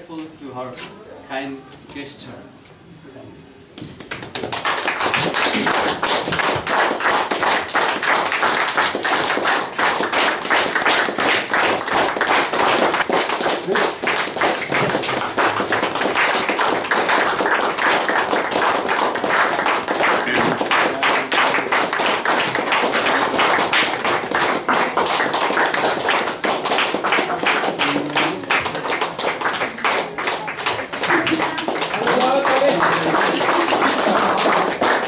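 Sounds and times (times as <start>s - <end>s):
group of people clapping: 3.8s - 35.0s.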